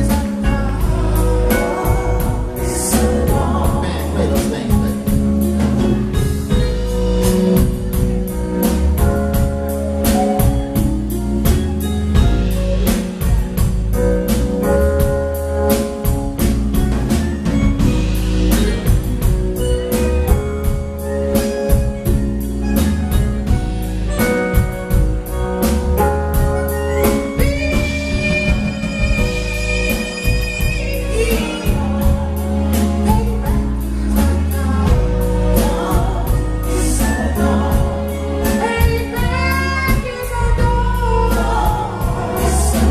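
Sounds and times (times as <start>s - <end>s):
bass guitar: 0.0s - 42.9s
drum kit beat: 0.0s - 42.9s
keyboard chords: 0.0s - 42.9s.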